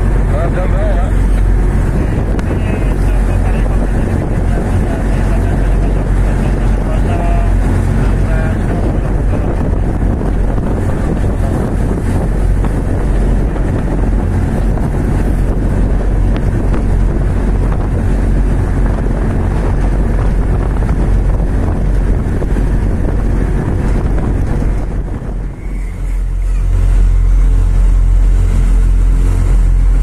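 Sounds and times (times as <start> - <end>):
diesel engine humming: 0.0 - 30.0
wind buffeting microphone: 0.0 - 30.0.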